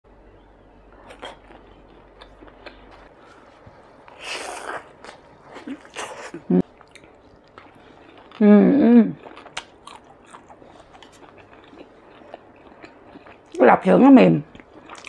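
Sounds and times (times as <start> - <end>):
wet chewing clicks: 1.0 - 8.4, 9.2 - 13.6, 14.5 - 15.0.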